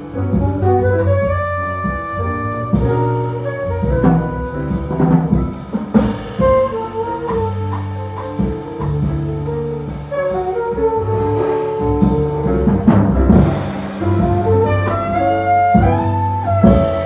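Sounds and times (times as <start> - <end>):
bass: 0.0 - 17.0
drums with cymbal washes: 0.0 - 17.0
piano: 0.0 - 17.0
saxophone lead line: 0.1 - 5.1, 6.0 - 17.0.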